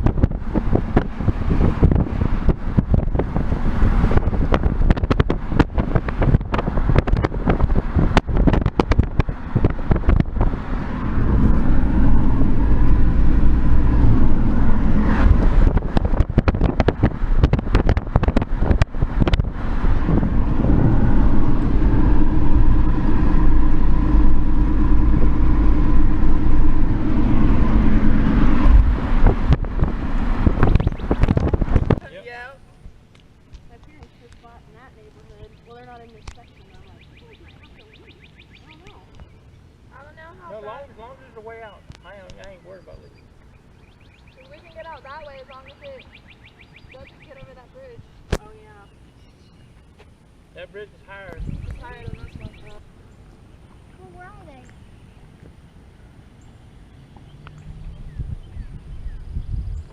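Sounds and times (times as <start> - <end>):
wind buffeting microphone: 0.0 - 40.9, 41.5 - 50.4, 51.1 - 59.9
heavy low rumble: 0.0 - 43.7, 50.2 - 59.9.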